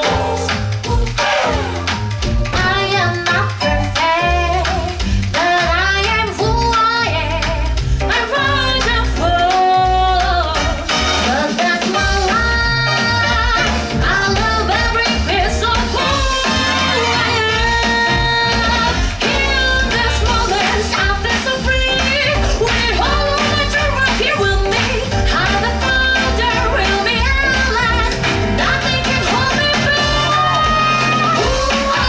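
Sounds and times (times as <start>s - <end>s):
upbeat song with heavy beat: 0.0s - 32.0s.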